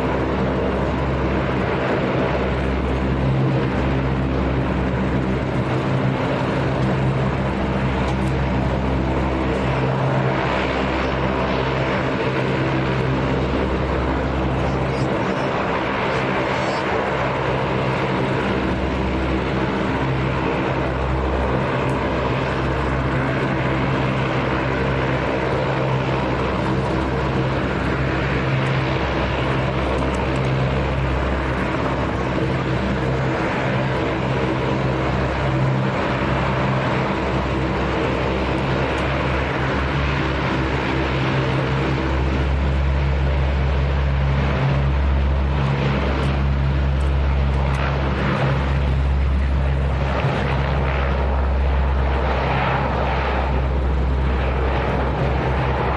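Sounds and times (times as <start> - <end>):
engine droning: 0.0 - 55.9.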